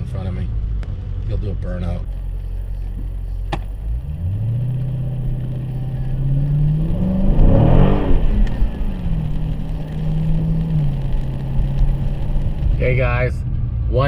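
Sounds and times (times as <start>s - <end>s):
car engine accelerating: 0.0s - 14.0s
engine and exhaust surge: 0.0s - 14.0s.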